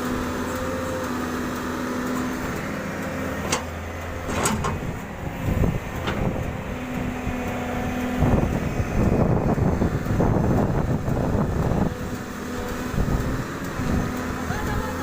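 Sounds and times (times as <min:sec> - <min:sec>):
excavator diesel engine: 0:00.0 - 0:15.0.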